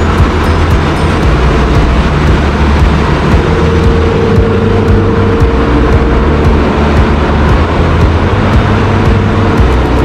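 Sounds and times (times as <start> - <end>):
constant low hum: 0.0 - 10.0
engine room machinery running: 0.0 - 10.0
thin steady whine: 0.0 - 10.0.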